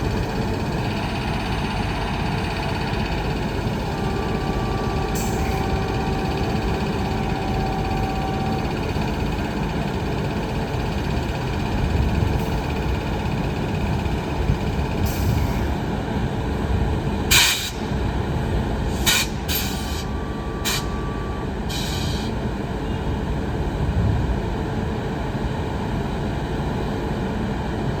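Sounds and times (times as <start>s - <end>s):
freight train rumbling by: 0.0s - 28.0s.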